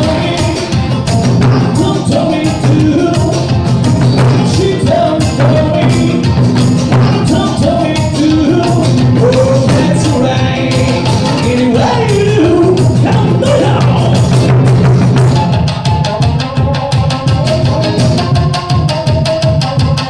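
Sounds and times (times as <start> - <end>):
taiko drums: 0.0 - 16.4
slide guitar: 0.0 - 20.0.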